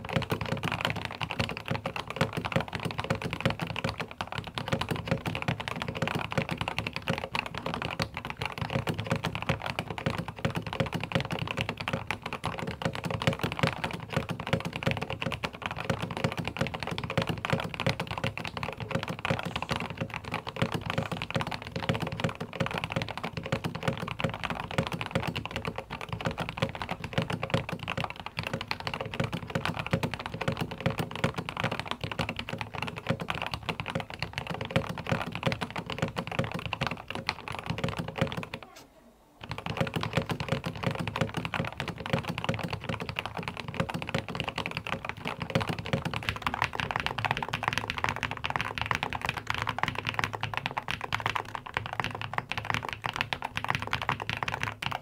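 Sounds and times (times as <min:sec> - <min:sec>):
mechanical keyboard typing: 0:00.0 - 0:38.8, 0:39.4 - 0:55.0.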